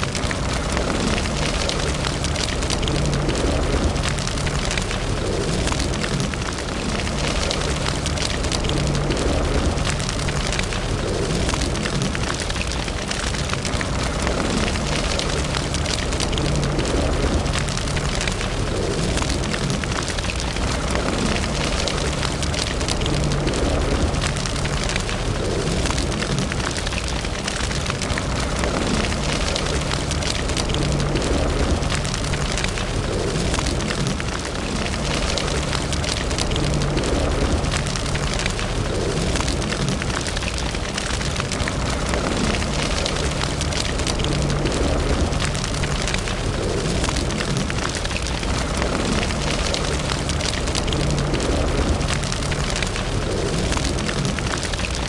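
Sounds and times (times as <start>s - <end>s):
fire burning in a fireplace: 0.0s - 55.0s
fire crackles and pops: 0.0s - 55.0s
low rumble: 0.0s - 55.0s.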